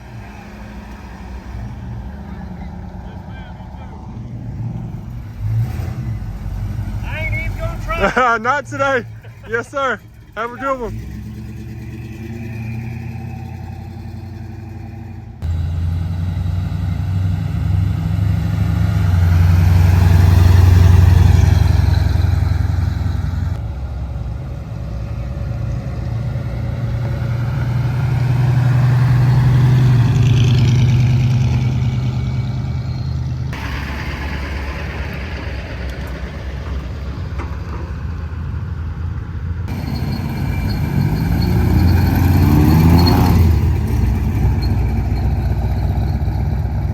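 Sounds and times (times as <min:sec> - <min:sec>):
car engines rumbling: 0:00.0 - 0:46.9.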